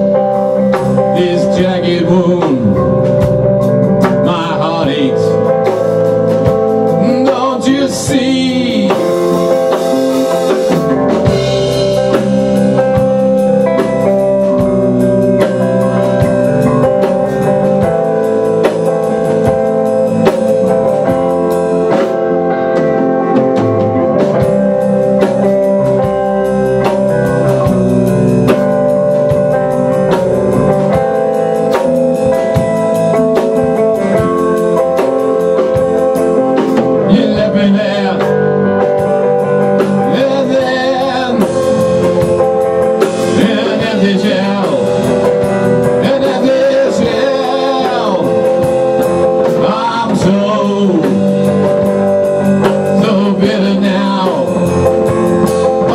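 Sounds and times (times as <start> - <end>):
distorted electric guitar: 0.0 - 55.9
drum kit beat: 0.0 - 55.9
electric bass: 0.0 - 55.9.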